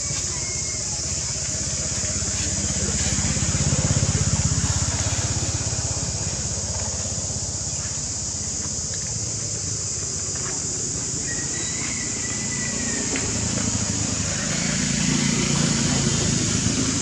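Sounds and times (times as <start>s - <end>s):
passing vehicle engine hum: 0.0s - 17.0s.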